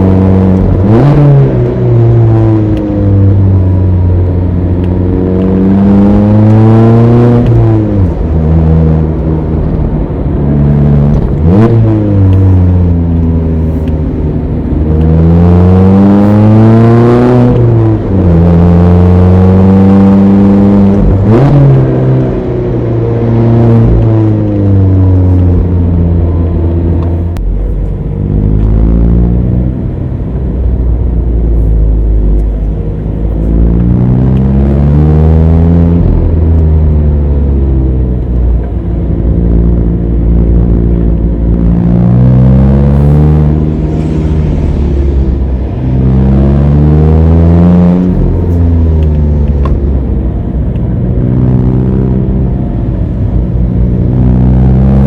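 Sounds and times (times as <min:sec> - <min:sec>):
car engine revving under load: 0:00.0 - 0:55.0.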